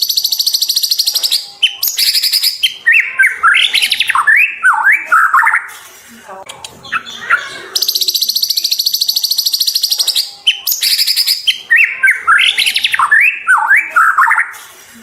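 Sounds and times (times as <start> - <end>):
bird singing trills and whistles: 0.0 - 5.7, 6.8 - 14.5.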